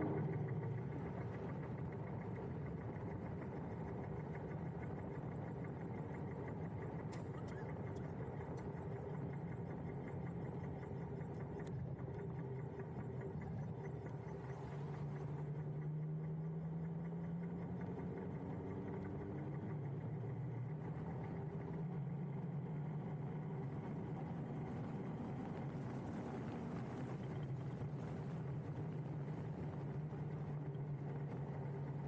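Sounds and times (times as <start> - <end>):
wind: 0.0 - 32.0.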